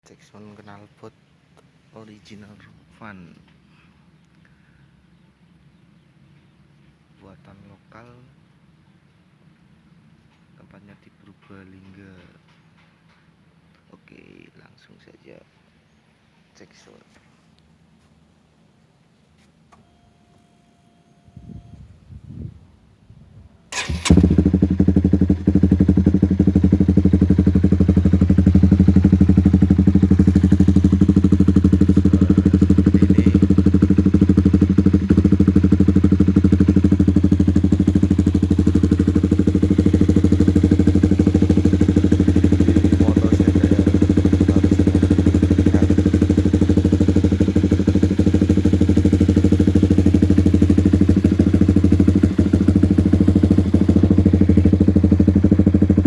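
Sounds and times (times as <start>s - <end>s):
motorcycle engine idling: 0.2s - 13.6s, 23.7s - 56.0s.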